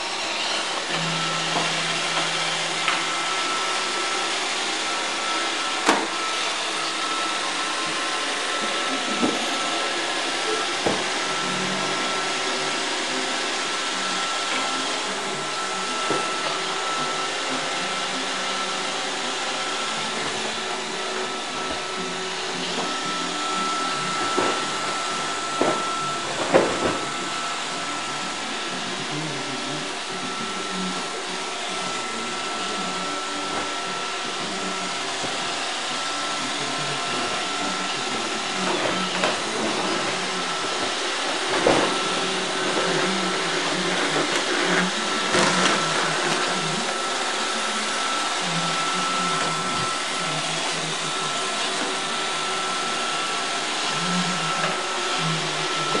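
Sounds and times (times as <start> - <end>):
robot vacuum whirring: 0.0 - 56.0.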